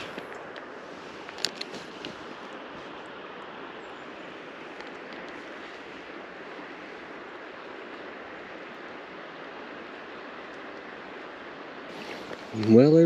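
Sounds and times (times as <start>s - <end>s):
flowing creek water: 0.0s - 13.0s.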